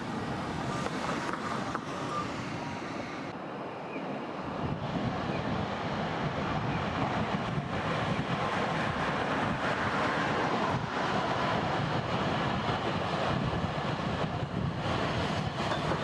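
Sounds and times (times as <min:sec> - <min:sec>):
passing vehicles rushing: 0:00.0 - 0:03.4, 0:04.5 - 0:16.0.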